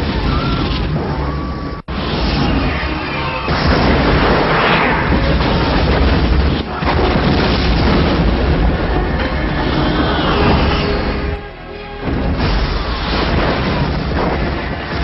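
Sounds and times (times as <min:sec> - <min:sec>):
crashing debris: 0:00.0 - 0:15.0
explosions: 0:00.0 - 0:15.0
music: 0:00.0 - 0:15.0.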